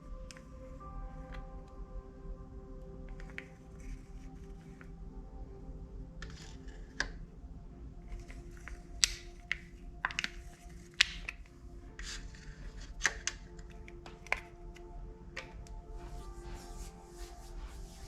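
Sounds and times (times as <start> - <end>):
soft background music: 0.0 - 18.0.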